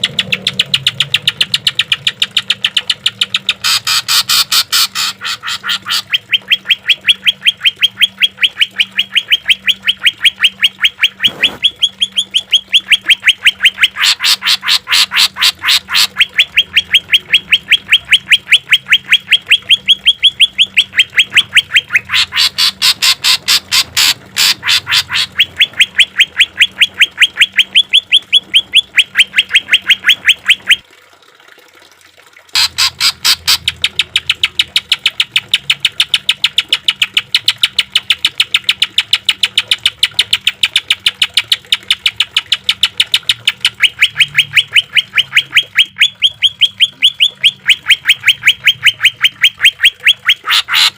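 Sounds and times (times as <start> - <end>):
bird singing rapid harsh notes: 0.0 - 30.8, 32.6 - 50.9.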